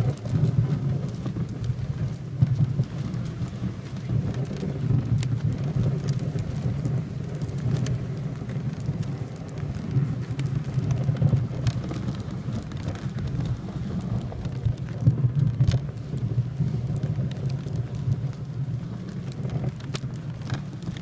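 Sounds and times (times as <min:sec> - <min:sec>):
light clicks and crunches: 0:00.0 - 0:21.0
sled runners scraping on snow: 0:00.0 - 0:21.0.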